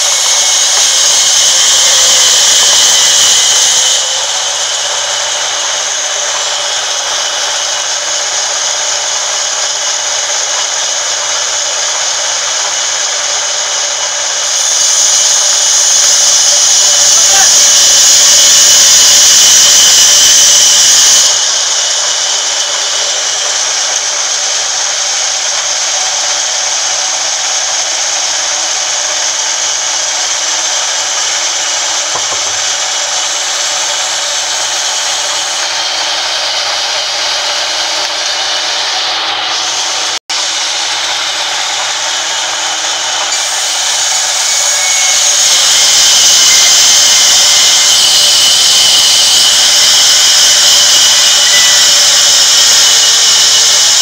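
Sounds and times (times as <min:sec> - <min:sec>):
band saw cutting through log: 0:00.0 - 0:54.0.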